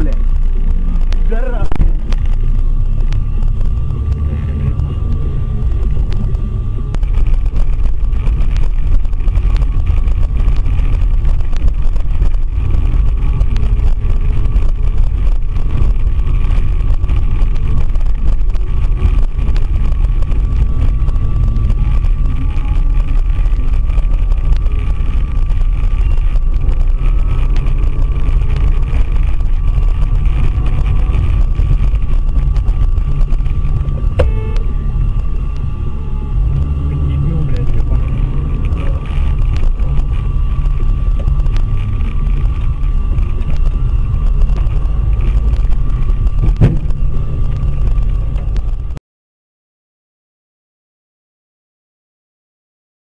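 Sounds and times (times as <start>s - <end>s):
car engine and tyre rumble: 0.0s - 49.0s
faint steady whine: 0.0s - 49.0s.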